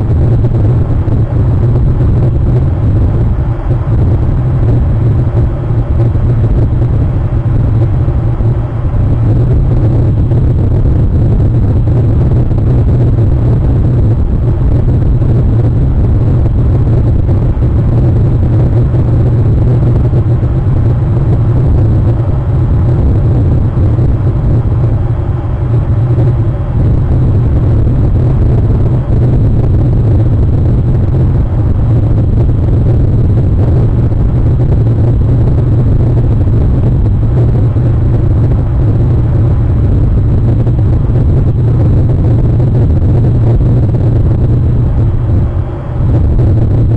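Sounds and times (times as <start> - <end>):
loud low rumble: 0.0 - 46.9.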